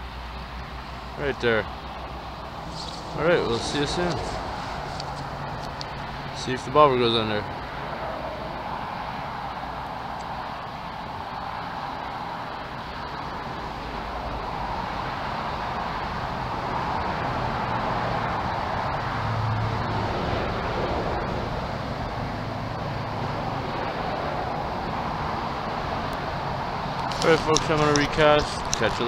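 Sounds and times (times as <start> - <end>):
passing traffic rush: 0.0 - 29.0.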